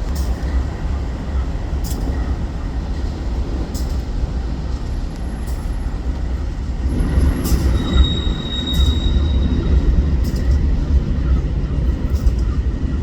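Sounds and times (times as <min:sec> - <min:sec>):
light rail clicks: 0:00.0 - 0:13.0
train passing rumble: 0:00.0 - 0:13.0.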